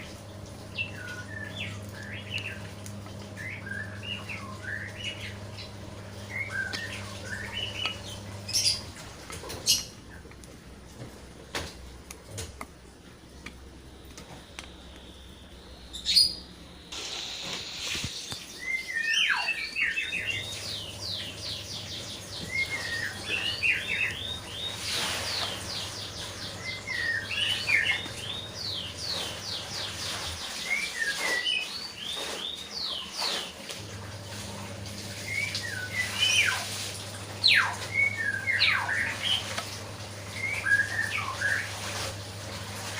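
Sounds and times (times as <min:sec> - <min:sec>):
birds chirping and singing: 0:00.0 - 0:10.4, 0:14.0 - 0:17.0, 0:17.9 - 0:33.6, 0:35.2 - 0:42.1.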